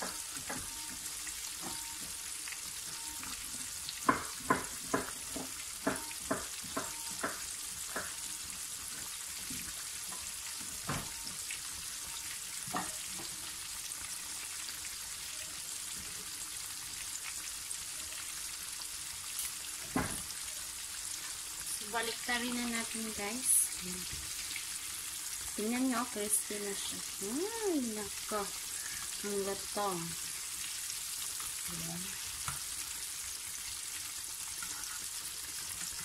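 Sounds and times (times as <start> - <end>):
chicken sizzling in hot oil: 0.0 - 36.0.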